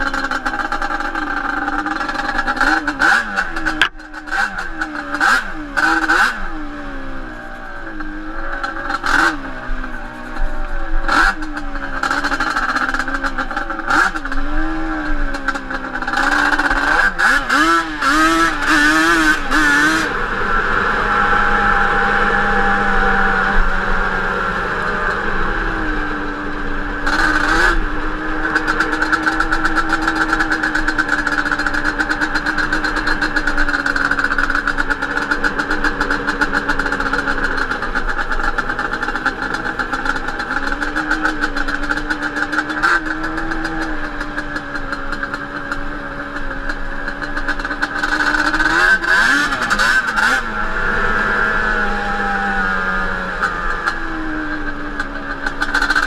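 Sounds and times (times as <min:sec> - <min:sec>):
two-stroke atv engine revving: 0:00.0 - 0:56.0.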